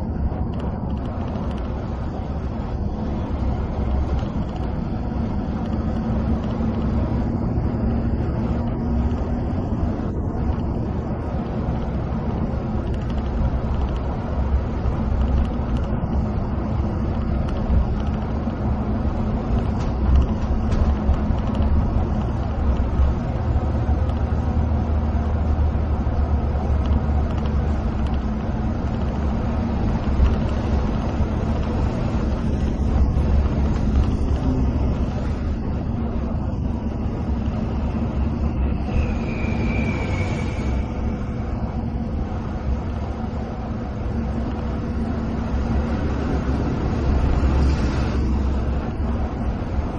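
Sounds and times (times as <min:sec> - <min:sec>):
bus engine drone: 0:00.0 - 0:49.9
tyres roaring on road: 0:00.0 - 0:49.9.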